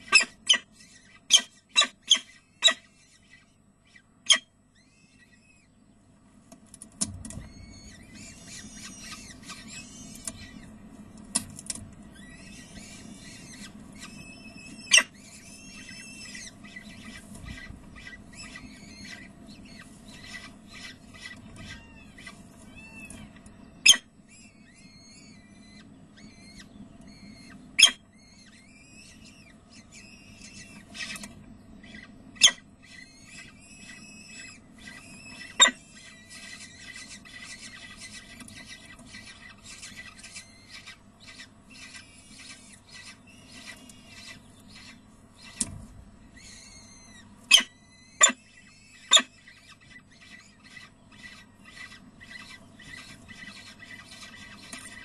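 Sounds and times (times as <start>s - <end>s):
falcon chicks cheeping: 0.0s - 6.2s, 7.1s - 55.0s.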